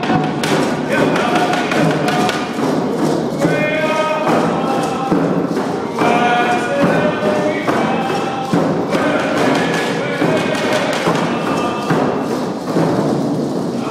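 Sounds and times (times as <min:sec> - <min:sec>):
group of voices singing: 0:00.0 - 0:12.6
steady drumbeat: 0:00.0 - 0:13.9.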